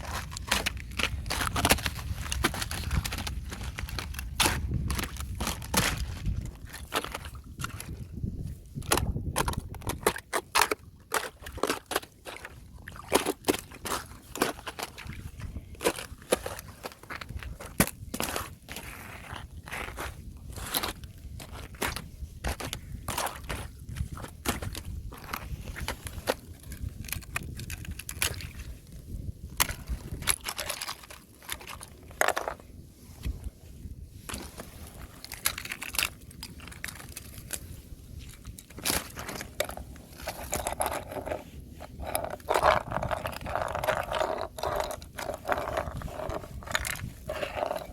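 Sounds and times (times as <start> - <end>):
thin ice crunching and cracking: 0.0 - 32.8, 34.2 - 47.9.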